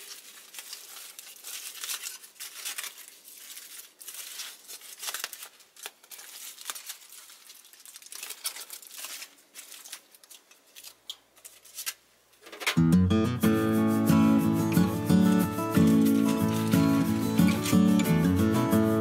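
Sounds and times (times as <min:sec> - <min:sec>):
aluminium foil crinkling: 0:00.0 - 0:12.6, 0:13.5 - 0:19.0.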